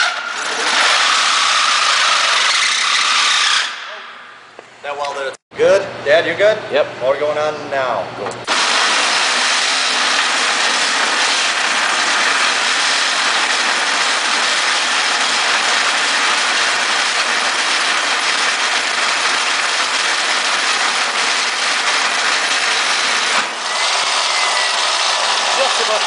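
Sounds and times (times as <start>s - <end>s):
electric motor spinning: 0.0s - 3.8s, 8.5s - 26.0s.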